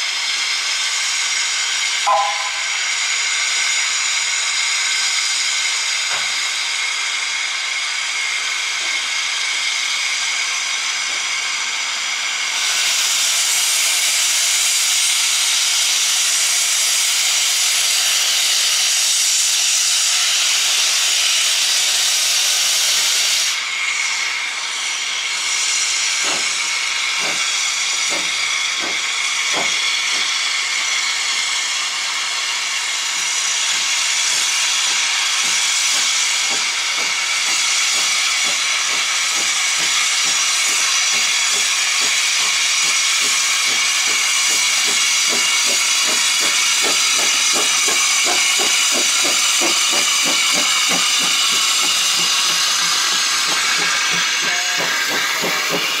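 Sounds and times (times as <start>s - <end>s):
steam hissing: 0.0s - 56.0s
steam locomotive exhaust beats: 0.0s - 56.0s.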